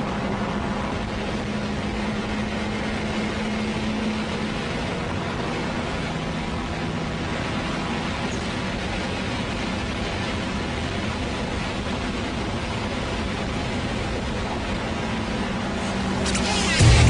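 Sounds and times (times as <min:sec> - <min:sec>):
car engine hum: 0:00.0 - 0:17.0
road noise inside car: 0:00.0 - 0:17.0.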